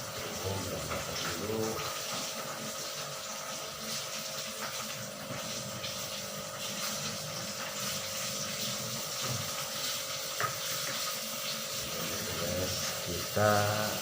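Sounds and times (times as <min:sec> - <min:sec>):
food frying in hot oil: 0:00.0 - 0:14.0.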